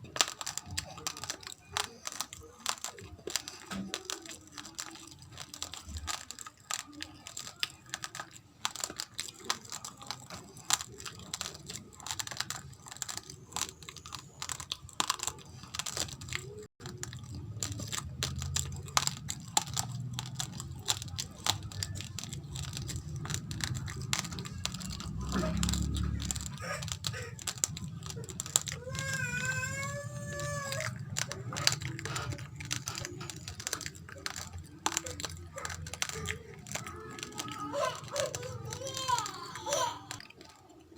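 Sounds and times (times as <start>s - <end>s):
raw rice crunched and chewed: 0.0s - 40.9s.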